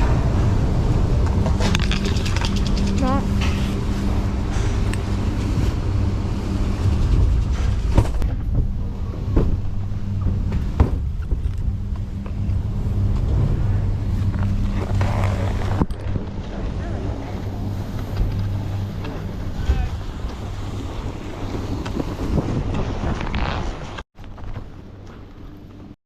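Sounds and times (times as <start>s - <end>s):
car engine and road hum: 0.0s - 22.8s.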